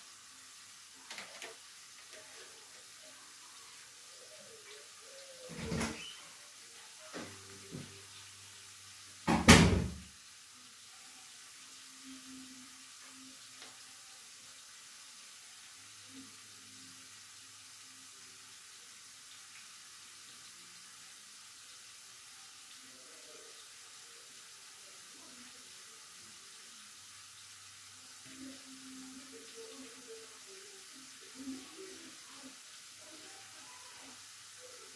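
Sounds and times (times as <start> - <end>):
gas stove hissing: 0.0 - 34.9.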